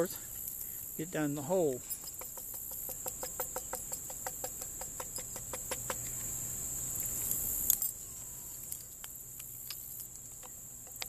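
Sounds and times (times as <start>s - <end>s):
insect trill: 0.0s - 11.0s
rustle: 0.0s - 11.0s.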